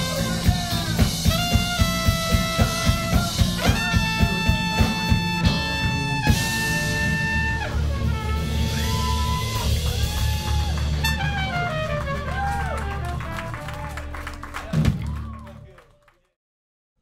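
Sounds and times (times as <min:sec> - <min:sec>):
drum beat: 0:00.0 - 0:13.5, 0:14.4 - 0:15.2
soul-pop band playing: 0:00.0 - 0:13.8
sustained bass line: 0:00.0 - 0:13.9.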